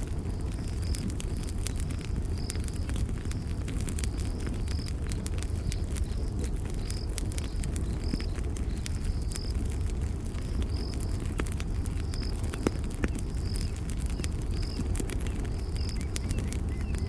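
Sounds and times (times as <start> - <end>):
campfire crackling and popping: 0.0 - 17.0
cricket chirping: 0.0 - 17.0
low rumble of burning wood: 0.0 - 17.0.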